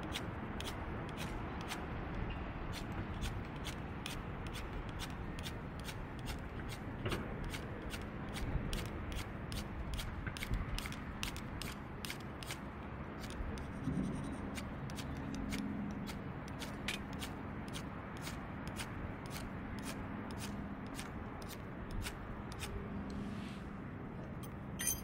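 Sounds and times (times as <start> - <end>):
low steady background noise: 0.0 - 25.0.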